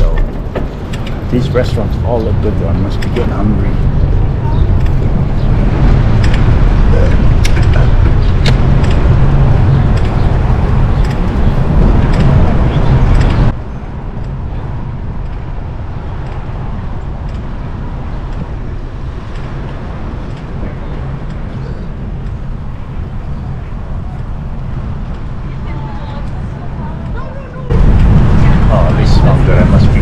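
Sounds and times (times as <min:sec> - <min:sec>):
street traffic: 0:00.0 - 0:30.0
wind noise on microphone: 0:00.0 - 0:30.0.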